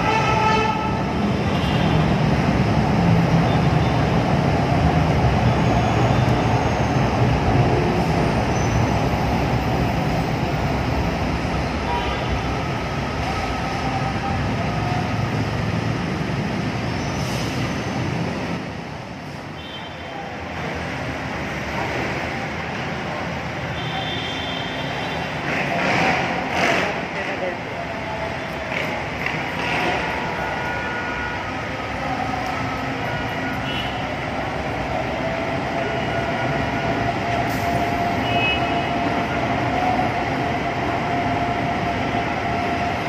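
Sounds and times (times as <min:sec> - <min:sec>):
street traffic: 0:00.0 - 0:43.0.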